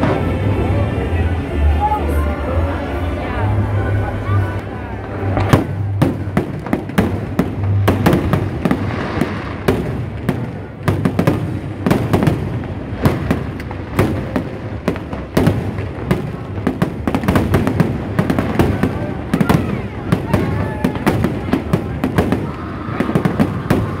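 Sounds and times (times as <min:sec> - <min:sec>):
fireworks bangs and booms: 0:00.0 - 0:01.3, 0:05.0 - 0:24.0.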